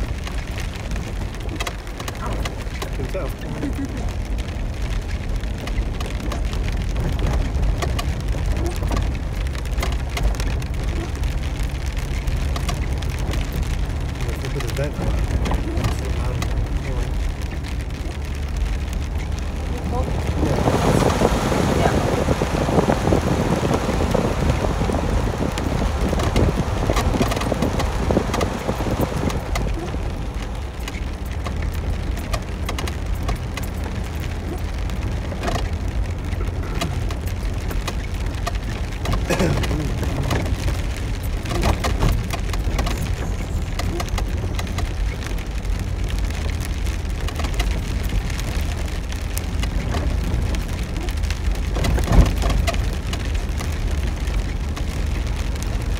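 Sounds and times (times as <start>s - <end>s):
engine and tyres rumbling: 0.0s - 55.9s
rain on vehicle roof: 0.0s - 55.9s.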